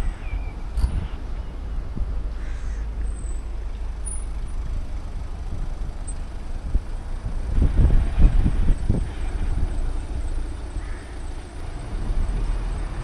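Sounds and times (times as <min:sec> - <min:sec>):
cars idling: 0:00.0 - 0:13.0.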